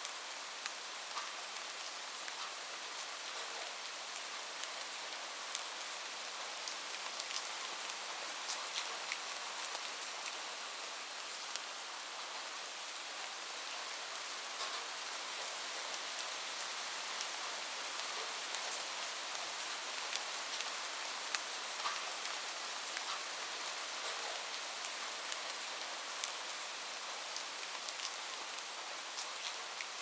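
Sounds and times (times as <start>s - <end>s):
rain falling on a roof: 0.0s - 30.0s.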